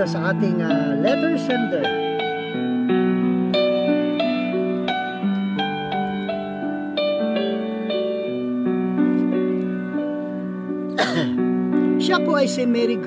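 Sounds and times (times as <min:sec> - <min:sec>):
slow instrumental music: 0:00.0 - 0:13.0.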